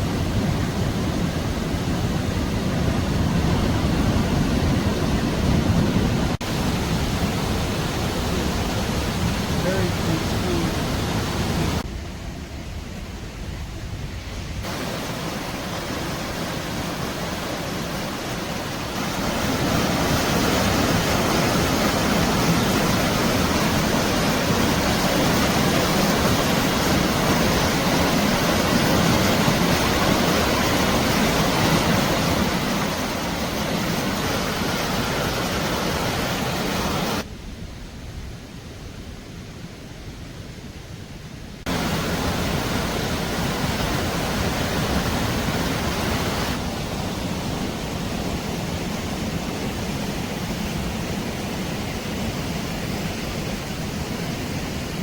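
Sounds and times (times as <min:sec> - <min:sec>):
rushing waterfall: 0:00.0 - 0:55.0.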